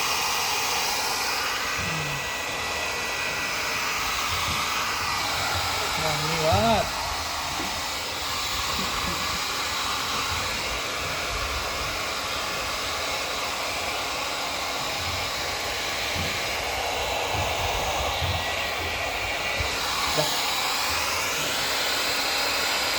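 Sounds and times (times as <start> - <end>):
hair dryer blowing: 0.0 - 22.9.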